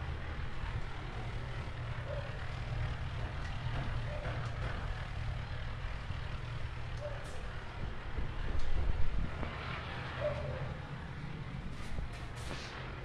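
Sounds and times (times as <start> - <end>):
low outdoor rumble with hiss: 0.0 - 13.0.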